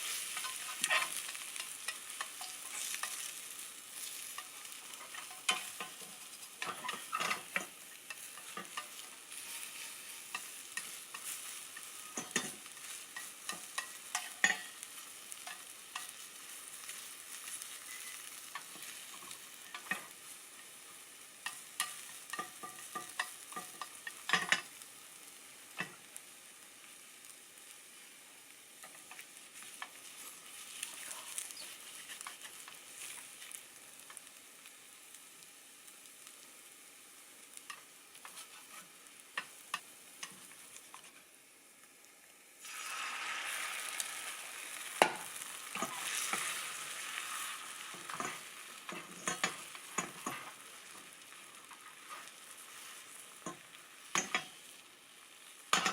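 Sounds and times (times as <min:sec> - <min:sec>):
utensils clicking on a pan: 0:00.0 - 0:26.2, 0:28.8 - 0:34.4, 0:37.6 - 0:41.2, 0:43.5 - 0:55.9
food sizzling in a pan: 0:00.0 - 0:55.9.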